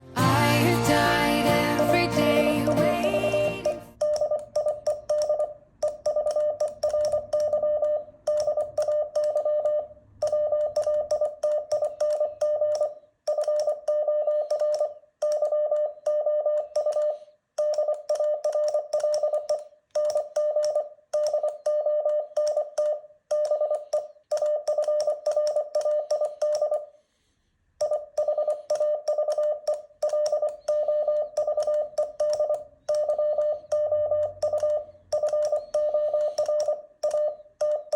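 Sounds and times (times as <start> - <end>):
morse code beeps: 2.7 - 26.9, 27.8 - 37.9.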